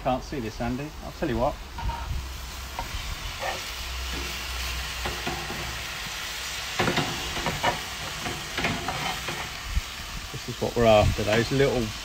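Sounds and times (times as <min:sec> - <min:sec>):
vegetables sizzling in a hot pan: 0:00.0 - 0:12.0.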